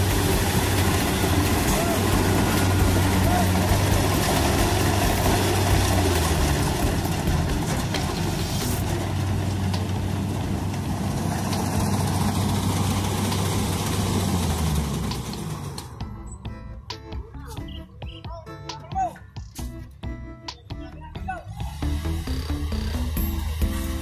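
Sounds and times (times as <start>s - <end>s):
combine harvester engine droning: 0.0s - 18.0s, 21.4s - 24.0s.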